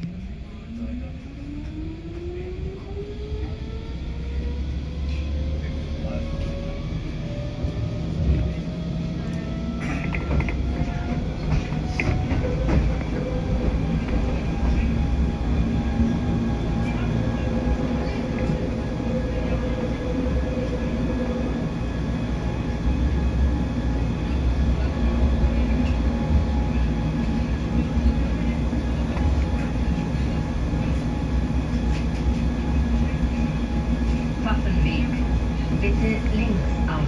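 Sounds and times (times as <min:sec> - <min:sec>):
railcar rumbling on track: 0:00.0 - 0:37.0.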